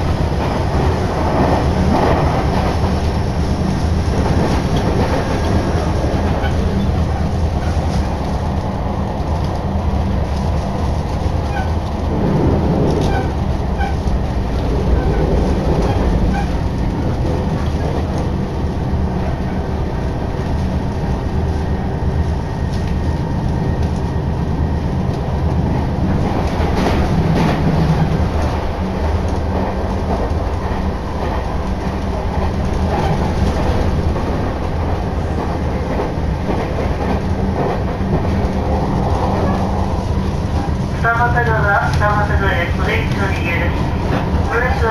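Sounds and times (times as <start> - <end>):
train clatter: 0.0 - 44.9
train wheels rumbling: 0.0 - 44.9.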